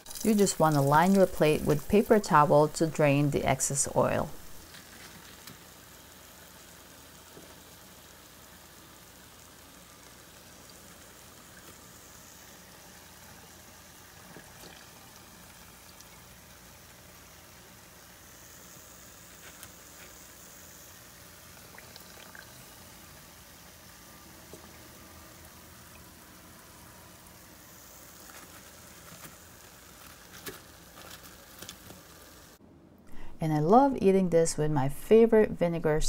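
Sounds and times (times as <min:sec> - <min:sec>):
oil bubbling and sizzling: 0:00.0 - 0:32.6.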